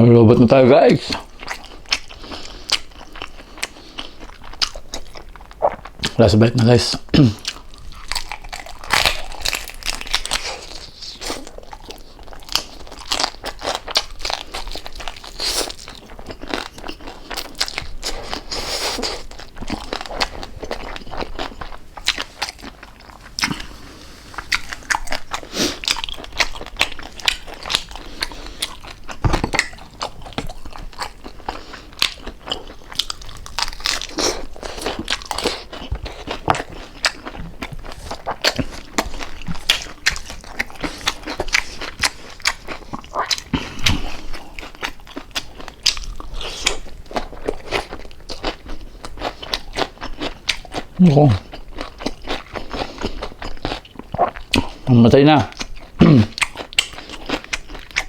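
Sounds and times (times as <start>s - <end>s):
person chewing crispy pork skin: 0.5s - 58.0s.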